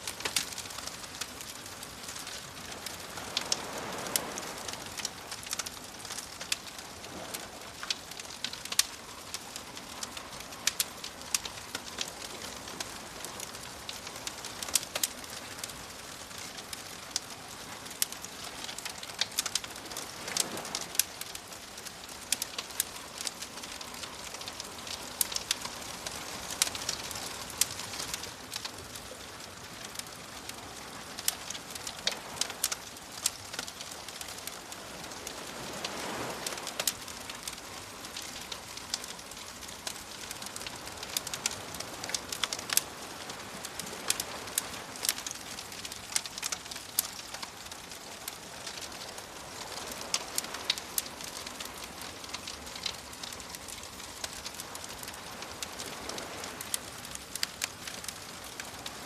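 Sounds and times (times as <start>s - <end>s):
campfire crackling and popping: 0.0s - 59.0s
soft waves washing in: 0.0s - 59.0s.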